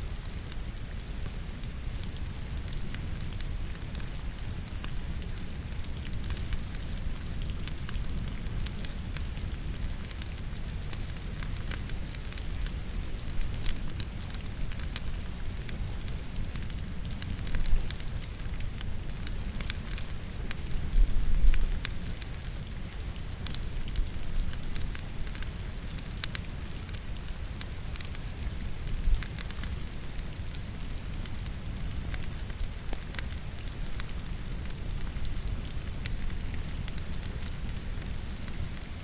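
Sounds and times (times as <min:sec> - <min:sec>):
logs crackling and popping in fire: 0:00.0 - 0:39.0
rain pattering: 0:00.0 - 0:39.0.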